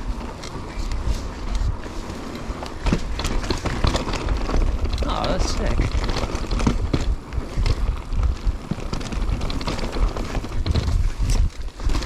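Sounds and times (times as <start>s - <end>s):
bike knocking and rattling: 0.0s - 12.0s
bike tyres rumbling on dirt: 0.0s - 12.0s.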